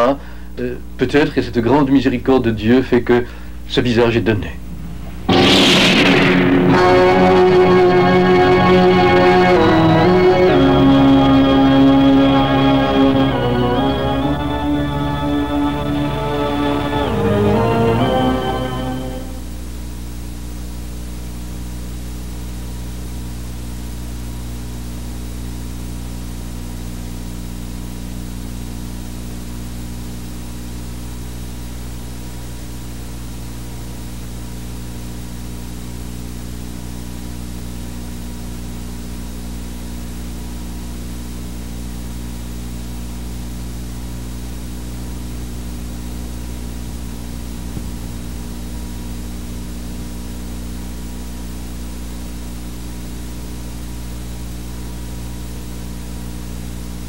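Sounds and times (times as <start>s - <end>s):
low electrical hum: 0.0s - 57.0s
tape hiss: 0.0s - 57.0s.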